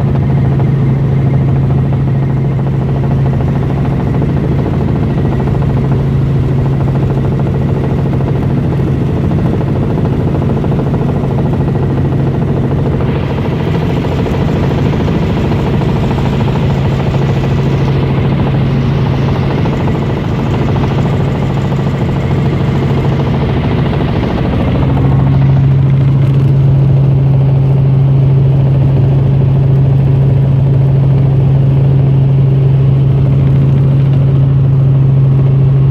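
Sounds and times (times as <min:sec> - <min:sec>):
helicopter engine and rotor drone: 0:00.0 - 0:35.9.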